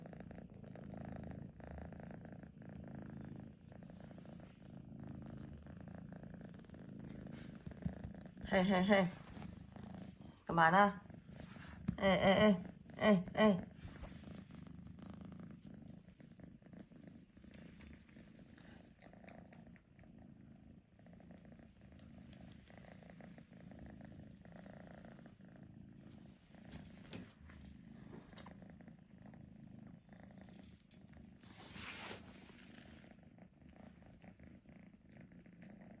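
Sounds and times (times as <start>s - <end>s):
low purring snore: 0.0s - 36.0s.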